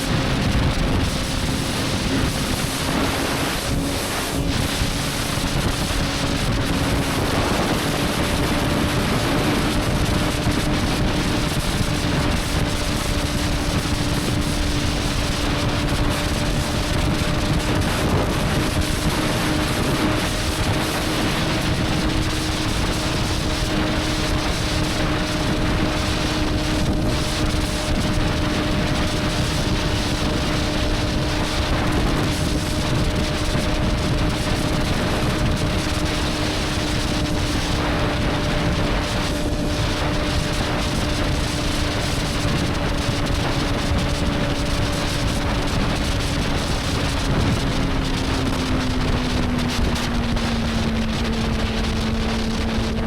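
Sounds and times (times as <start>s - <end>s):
motorcycle engine cruising: 0.0s - 53.0s
wind rush on microphone: 0.0s - 53.0s.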